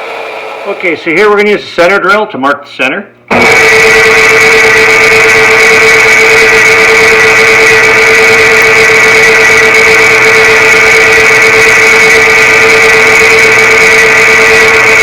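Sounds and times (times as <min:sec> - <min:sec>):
drill press humming and whining: 0:00.0 - 0:00.9, 0:03.3 - 0:15.0.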